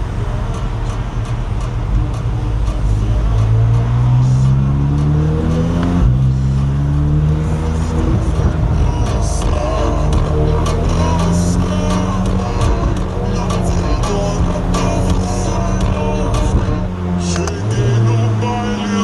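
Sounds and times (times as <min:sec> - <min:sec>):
sports car engine accelerating: 0:00.0 - 0:19.0.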